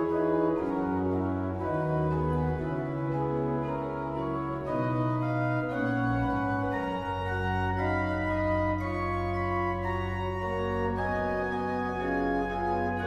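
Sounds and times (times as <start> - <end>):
pipe organ playing chords: 0.0 - 13.0.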